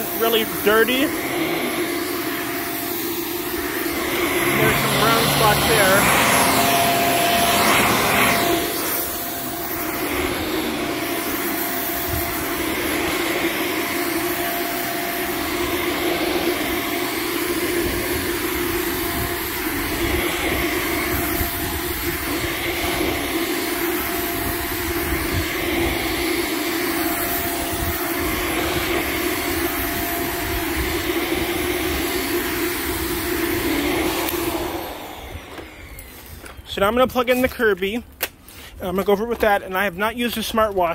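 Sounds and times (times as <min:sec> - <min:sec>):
vacuum cleaner motor drone: 0:00.0 - 0:36.6.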